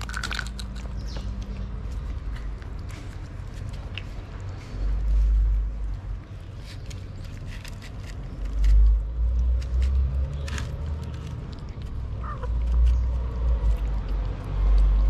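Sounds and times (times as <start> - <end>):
cats chewing and lapping food: 0.0 - 15.0.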